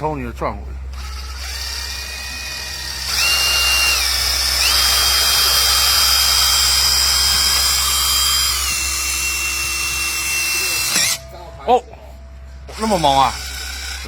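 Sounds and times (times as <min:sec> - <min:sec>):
electric drill boring into steel: 0:00.9 - 0:11.3, 0:12.7 - 0:14.0.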